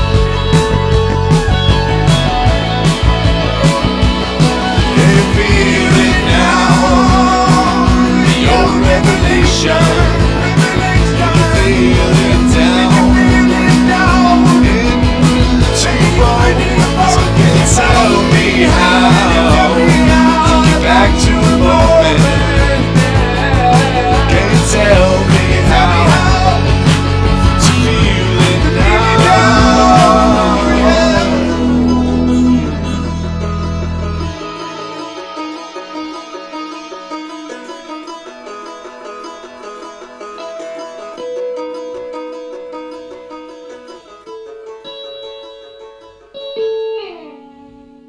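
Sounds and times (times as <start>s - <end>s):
instrumental rock music: 0.0s - 48.0s.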